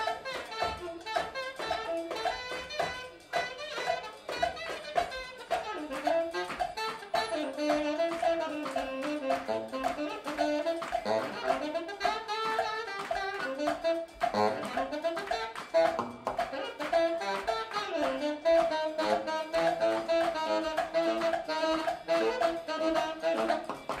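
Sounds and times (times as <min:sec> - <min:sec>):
baritone saxophone riffs: 0:00.0 - 0:24.0
latin brass band music: 0:00.0 - 0:24.0.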